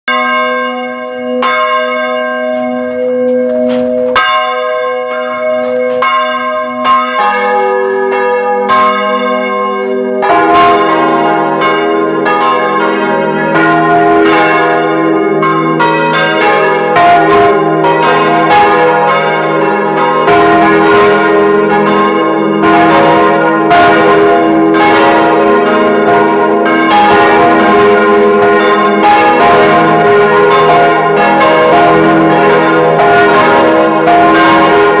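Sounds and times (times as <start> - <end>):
church bells ringing: 0.1 - 35.0.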